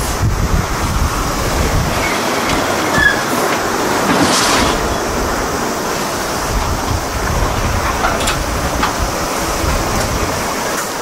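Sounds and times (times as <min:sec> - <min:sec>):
diesel truck passing: 0:00.0 - 0:11.0
wind buffeting microphone: 0:00.0 - 0:11.0.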